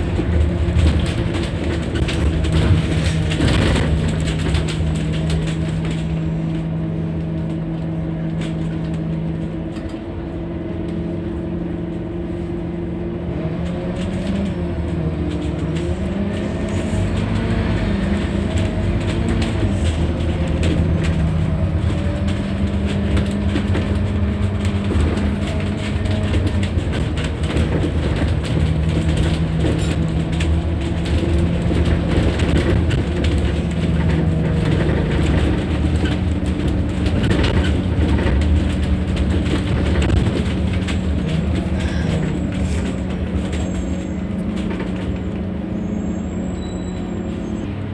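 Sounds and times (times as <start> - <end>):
bus diesel engine running: 0.0 - 47.9
road rumble: 0.0 - 47.9.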